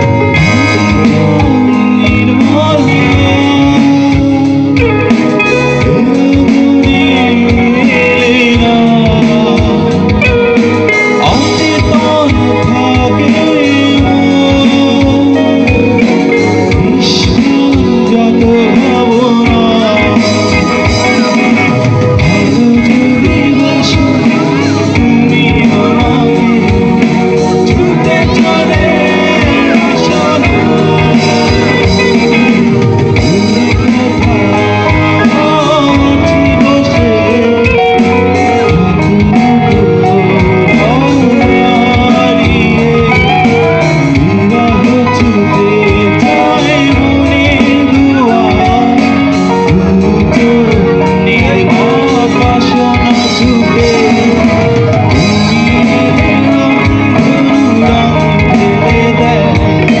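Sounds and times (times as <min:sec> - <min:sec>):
electric guitars: 0:00.0 - 1:00.0
keyboard: 0:00.0 - 1:00.0
man singing into a microphone: 0:00.0 - 1:00.0
steady beat: 0:00.0 - 1:00.0.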